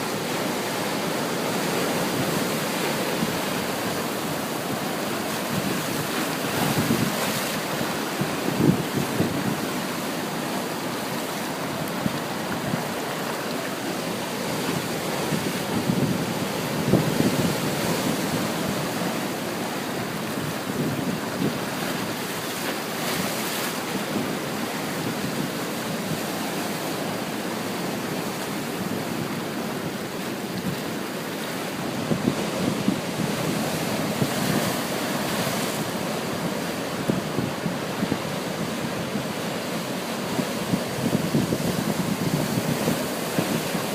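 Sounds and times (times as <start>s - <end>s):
ocean surf washing onto beach: 0.0s - 43.9s
waves breaking: 0.0s - 43.9s.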